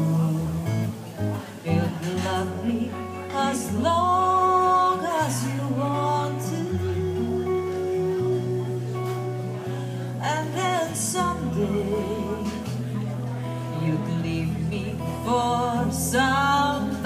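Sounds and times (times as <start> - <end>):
acoustic guitar: 0.0 - 17.0
woman singing: 0.0 - 17.0.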